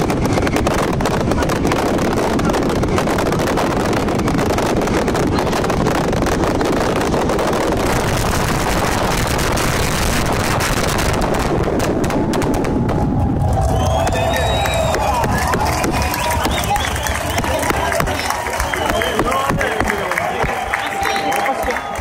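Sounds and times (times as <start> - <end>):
hissing crackle: 0.0 - 19.5
fireworks banging and crackling: 0.0 - 22.0.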